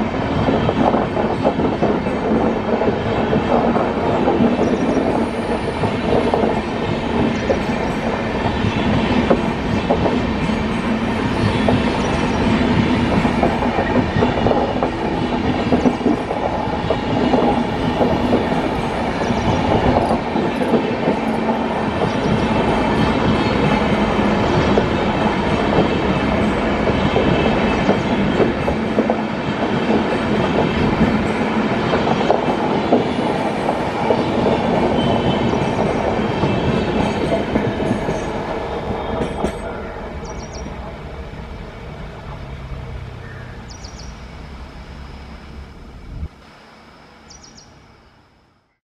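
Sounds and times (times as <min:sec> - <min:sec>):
train passing rumble and rattle: 0:00.0 - 0:48.8.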